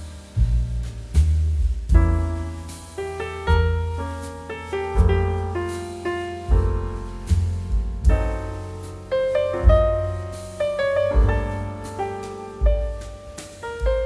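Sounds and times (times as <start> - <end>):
low bass line: 0.0 - 14.0
piano chords ringing: 2.0 - 14.0.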